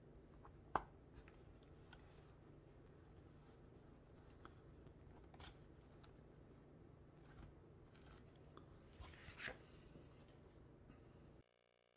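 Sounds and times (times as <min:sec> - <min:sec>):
low room hum: 0:00.0 - 0:11.9.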